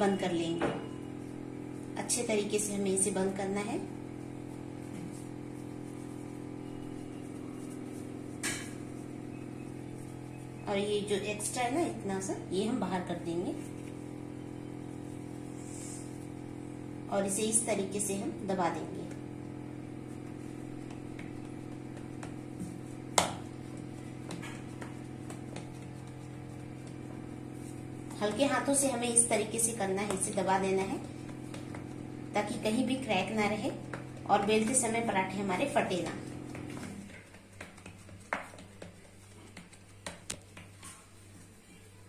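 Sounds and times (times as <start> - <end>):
low machine hum: 0.0 - 42.0
dough pressed by hand: 0.4 - 41.6.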